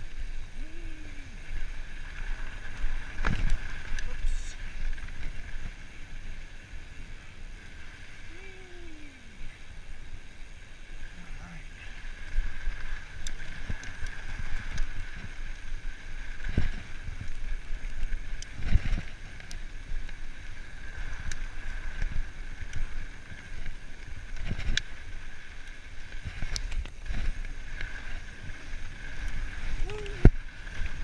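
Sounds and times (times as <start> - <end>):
wind: 0.0 - 31.0
bike rattles and clicks: 1.5 - 8.1, 11.8 - 31.0.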